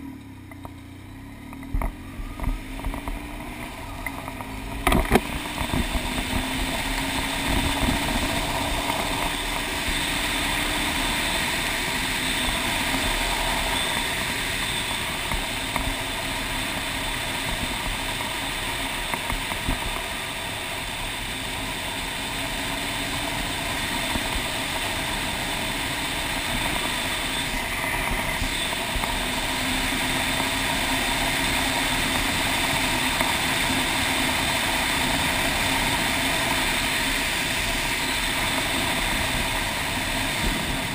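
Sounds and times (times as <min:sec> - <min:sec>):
motorcycle engine cruising: 0:00.0 - 0:40.9
road noise on gravel: 0:00.0 - 0:40.9.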